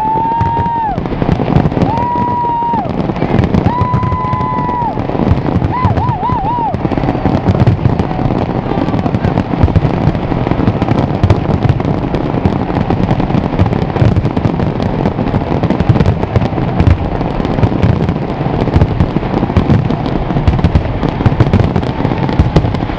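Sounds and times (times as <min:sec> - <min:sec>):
fireworks bangs and crackles: 0:00.0 - 0:22.9.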